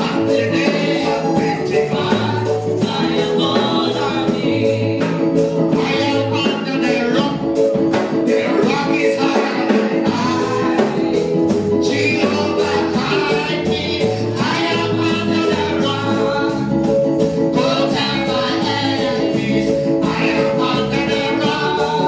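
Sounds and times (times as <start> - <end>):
instrumental accompaniment with beat: 0.0 - 22.0
women singing gospel: 0.0 - 22.0.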